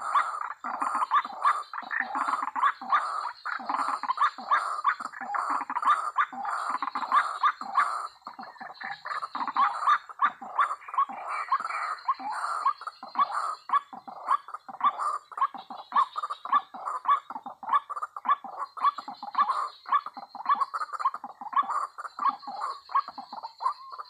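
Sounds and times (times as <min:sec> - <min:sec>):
waterhen harsh calls: 0:00.0 - 0:24.0.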